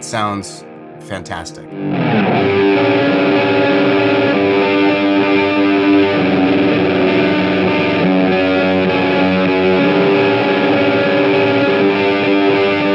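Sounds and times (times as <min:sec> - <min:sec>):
distorted electric guitar chords: 0:00.0 - 0:12.9.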